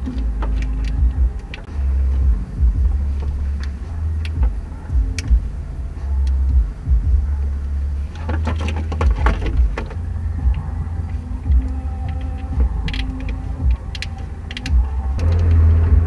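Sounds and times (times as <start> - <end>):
hoses handled with clicks and knocks: 0.0 - 5.5, 8.1 - 15.8.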